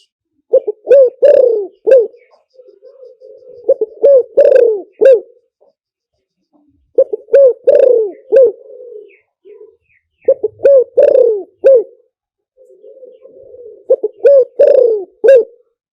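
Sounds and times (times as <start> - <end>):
dove cooing: 0.0 - 5.5, 6.6 - 15.8.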